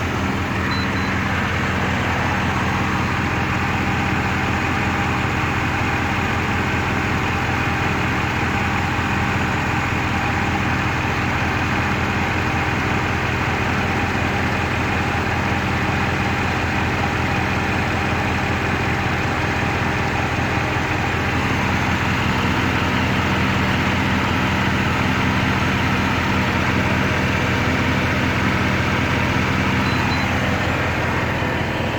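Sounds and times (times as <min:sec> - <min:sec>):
engine idling with misfire: 0:00.0 - 0:31.9.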